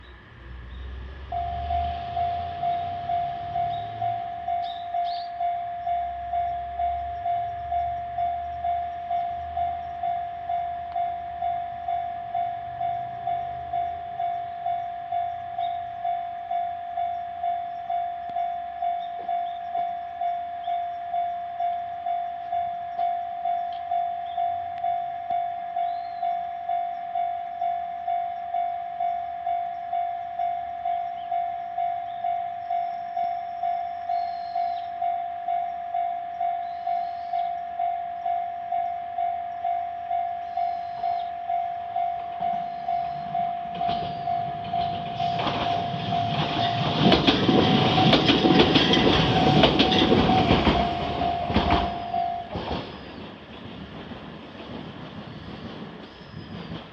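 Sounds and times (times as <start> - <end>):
level crossing warning bell: 1.2 - 53.2.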